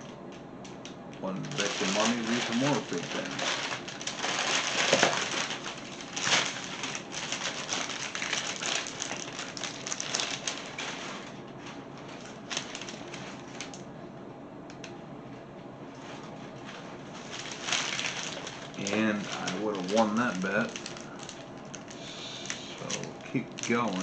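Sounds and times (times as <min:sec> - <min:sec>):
packaging crinkling and tearing: 0:01.2 - 0:13.8, 0:17.2 - 0:24.0.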